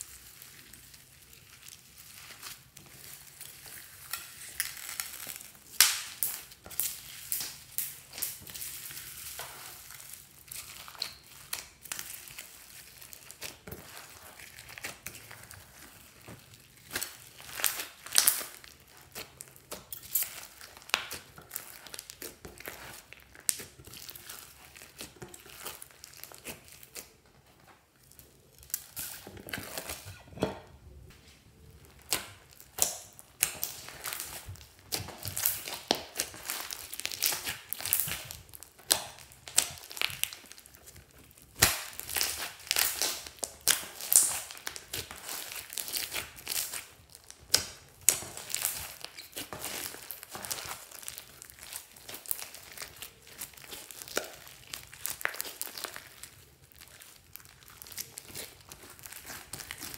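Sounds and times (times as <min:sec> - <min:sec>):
slime crackling and popping: 0:00.0 - 0:30.2, 0:31.6 - 0:59.9.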